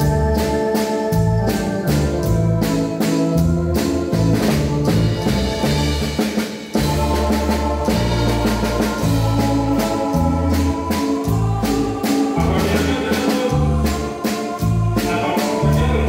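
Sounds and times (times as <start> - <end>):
steady drum beat: 0.0 - 16.0
waltz on synthesizer keyboards: 0.0 - 16.0.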